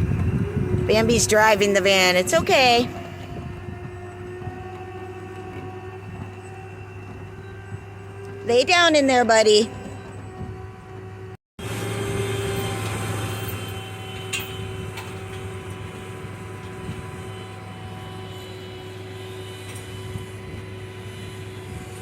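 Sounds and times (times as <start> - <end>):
tow truck engine hum: 0.0 - 8.6, 9.5 - 22.0.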